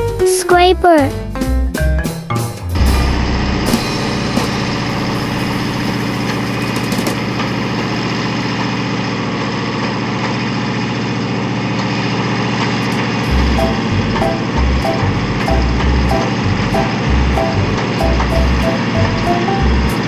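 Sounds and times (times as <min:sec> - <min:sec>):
diesel engine idling: 0:02.8 - 0:11.7, 0:12.7 - 0:20.0.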